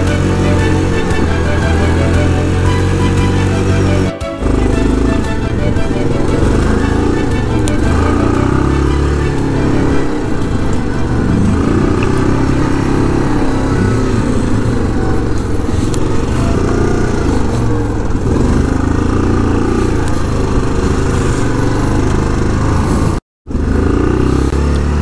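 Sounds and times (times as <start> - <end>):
atv engine revving: 0.0 - 25.0.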